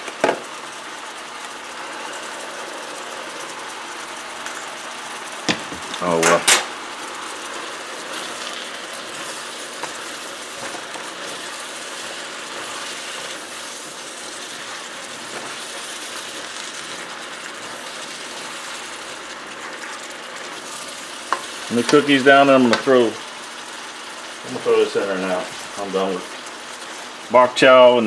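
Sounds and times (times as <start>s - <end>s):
vegetables sizzling in wok: 0.0s - 28.0s.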